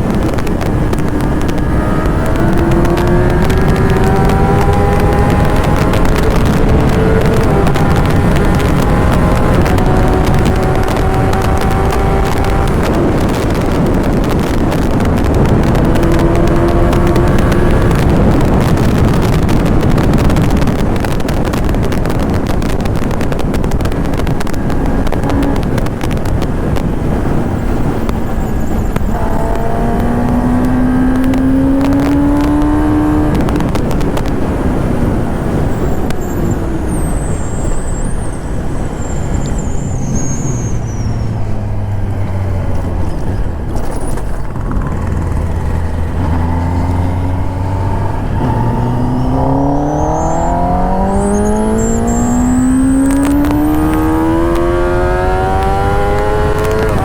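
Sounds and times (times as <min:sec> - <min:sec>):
motorcycle engine accelerating: 0:00.0 - 0:57.0
wind rush over microphone: 0:00.0 - 0:57.0.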